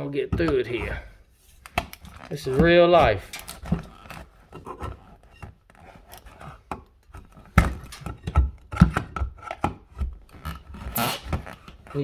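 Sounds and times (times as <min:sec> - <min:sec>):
clicks and scrapes of electrical box: 0:00.0 - 0:12.0.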